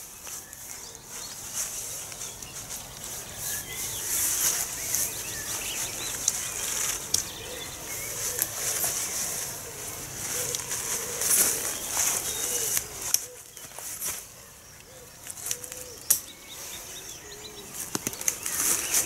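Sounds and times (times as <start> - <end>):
tent nylon rustling: 0.0 - 19.0.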